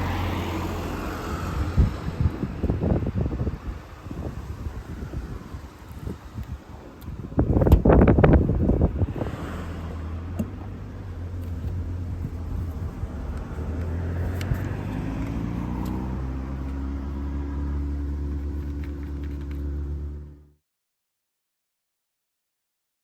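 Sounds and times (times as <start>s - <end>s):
car engine running while driving: 0.0s - 20.6s.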